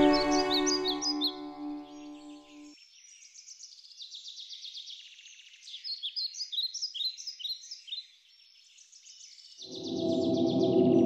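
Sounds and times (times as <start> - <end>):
birds singing and trilling: 0.0 - 11.0.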